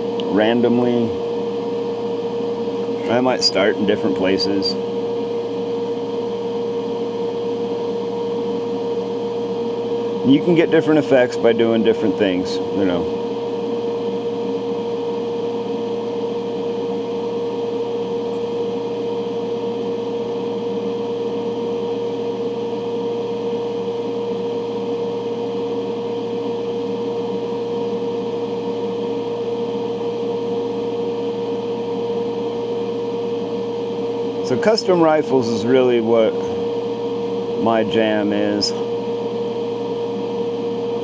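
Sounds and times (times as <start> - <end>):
ventilation fan humming: 0.0 - 41.0.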